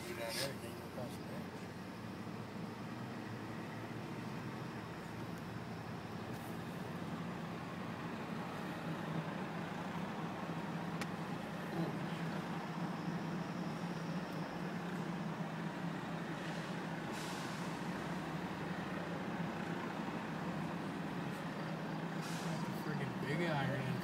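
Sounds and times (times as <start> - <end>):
car road noise: 0.0 - 24.0.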